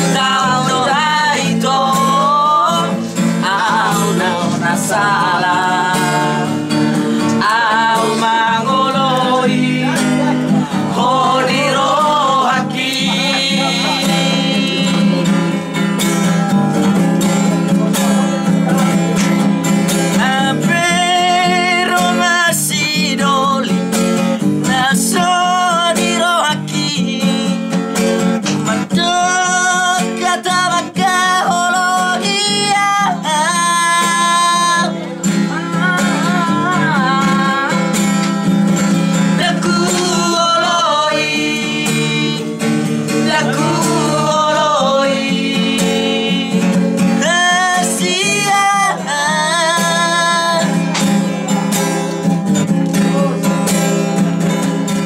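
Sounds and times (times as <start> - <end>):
man singing: 0.0 - 51.7, 52.6 - 55.0
acoustic guitar strumming: 0.0 - 55.0.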